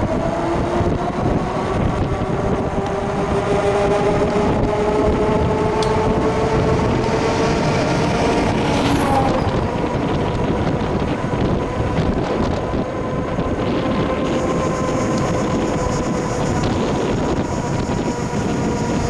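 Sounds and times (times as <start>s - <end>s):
road noise: 0.0s - 19.0s
steady motor whine: 0.0s - 19.0s
wind rushing over microphone: 0.0s - 19.0s.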